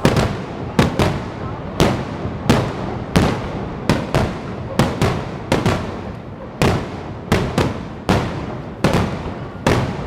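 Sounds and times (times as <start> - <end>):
fireworks bursting with echo: 0.0 - 10.0.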